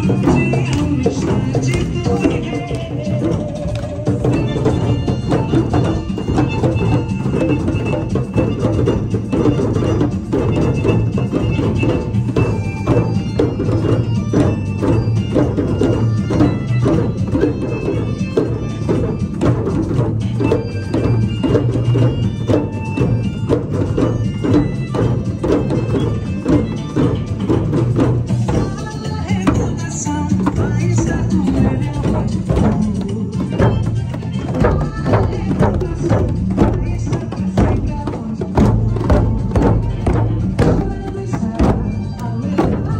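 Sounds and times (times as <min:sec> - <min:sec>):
hand drums playing: 0:00.0 - 0:42.9.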